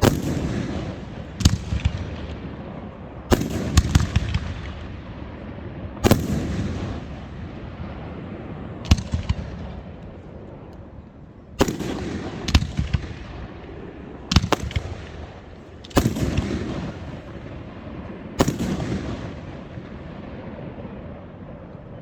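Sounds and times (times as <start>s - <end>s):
fireworks exploding: 0.0s - 11.0s, 11.6s - 21.0s
rumbling echo: 0.0s - 21.5s.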